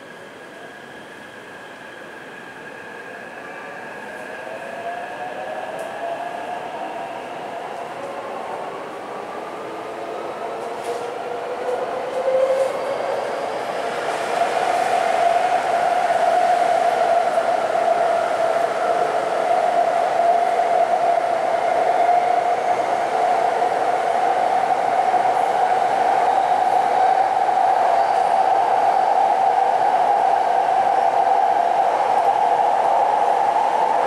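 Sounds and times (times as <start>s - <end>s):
train rumble and hiss: 0.0s - 34.0s
train whine: 0.0s - 34.0s.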